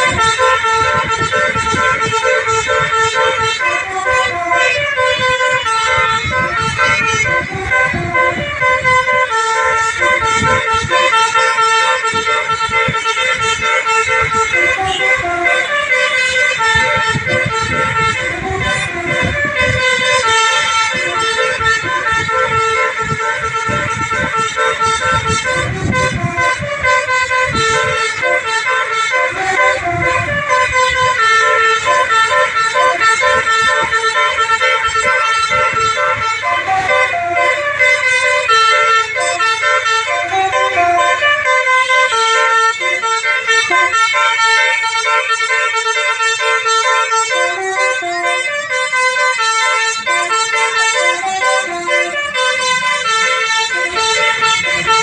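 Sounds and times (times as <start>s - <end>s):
multi-tone bus horn tune: 0.0s - 55.0s.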